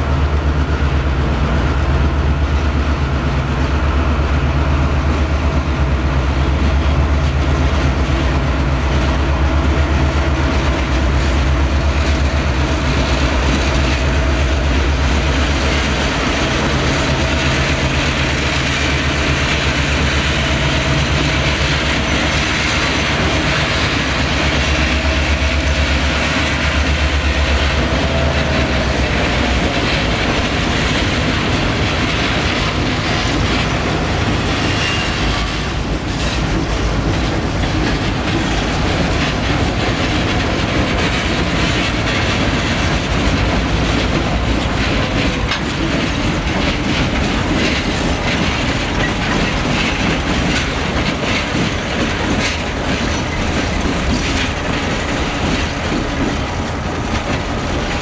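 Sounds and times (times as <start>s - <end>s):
locomotive engines droning: 0.0s - 58.0s
wheels clattering on rails: 5.0s - 58.0s.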